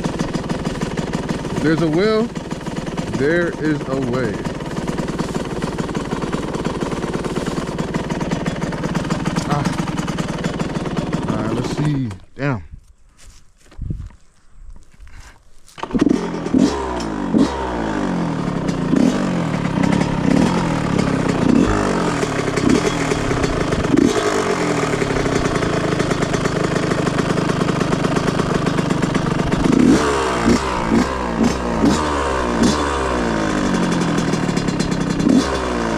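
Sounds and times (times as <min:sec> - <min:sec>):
two-stroke engine revving: 0:00.0 - 0:12.3, 0:15.8 - 0:35.9.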